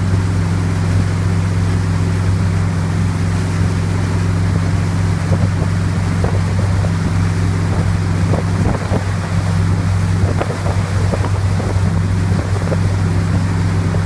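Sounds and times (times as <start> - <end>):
foaming wake: 0.0 - 14.0
motorboat engine humming: 0.0 - 14.0
wind buffeting microphone: 2.4 - 14.0.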